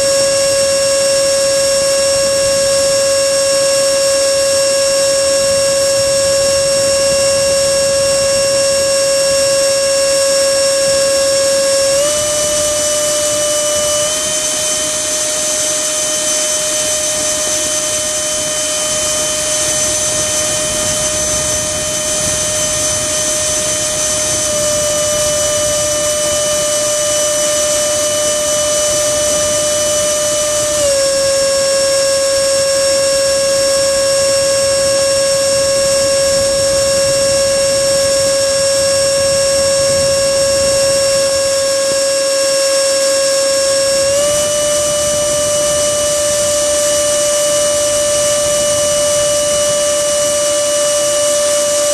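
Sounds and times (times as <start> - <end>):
electric fan high-pitched whine: 0.0 - 51.9
rush of air: 4.9 - 49.9.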